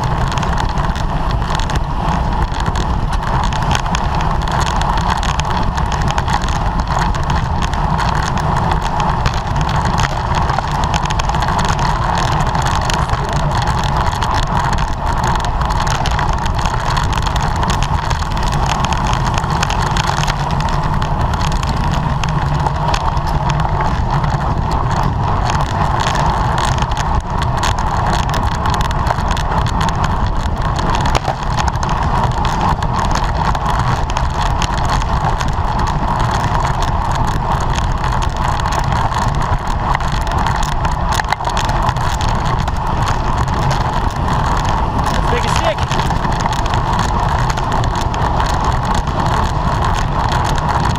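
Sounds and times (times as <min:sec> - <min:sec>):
constant hum: 0:00.0 - 0:50.9
wind and road noise: 0:00.0 - 0:50.9.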